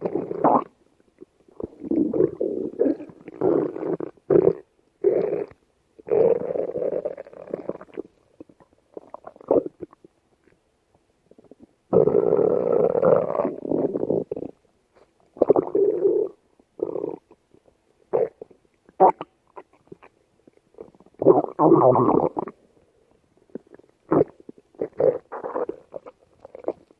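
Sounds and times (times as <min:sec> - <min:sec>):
stomach growling: 0:00.0 - 0:10.6, 0:11.3 - 0:22.6, 0:23.4 - 0:26.9.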